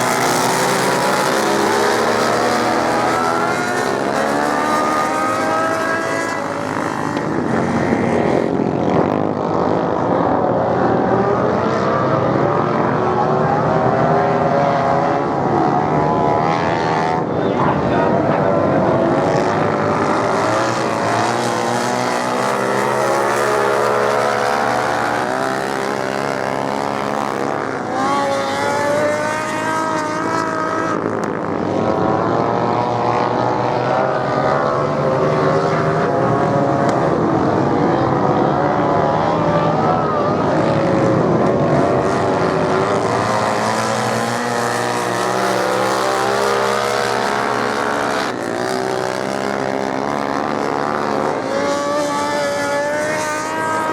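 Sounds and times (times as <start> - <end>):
racing motorcycle engines revving: 0.0 - 53.9.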